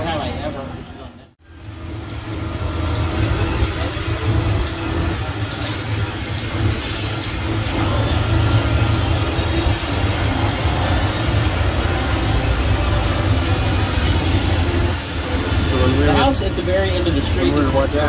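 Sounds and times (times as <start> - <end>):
road and air noise: 0.0 - 18.0
tram engine rumble: 0.0 - 18.0.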